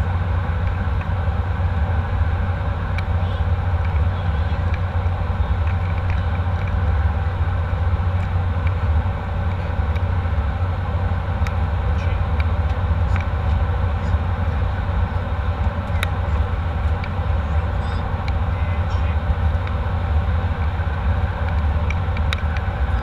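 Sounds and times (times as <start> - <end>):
jet cabin rumble: 0.0 - 23.0.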